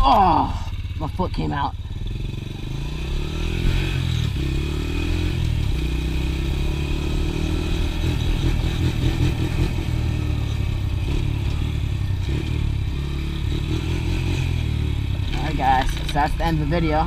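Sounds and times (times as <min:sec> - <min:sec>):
small engine revving: 0:01.6 - 0:17.0.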